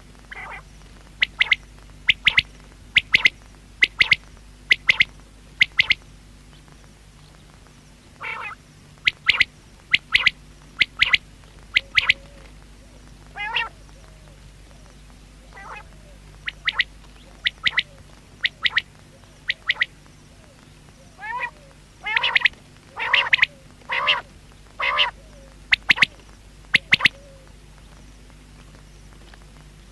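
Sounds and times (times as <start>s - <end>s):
quail calling: 0.3s - 6.0s, 8.2s - 27.5s.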